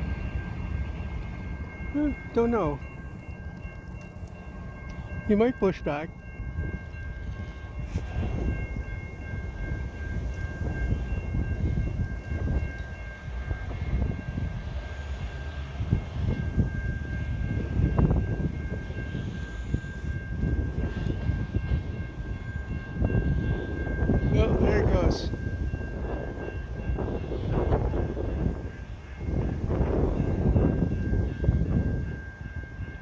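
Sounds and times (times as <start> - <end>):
diesel locomotives rumbling: 0.0 - 33.0.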